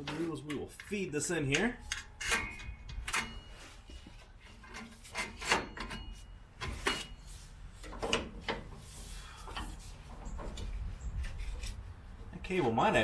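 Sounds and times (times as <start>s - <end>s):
cable scraping against metal: 0.0s - 11.9s.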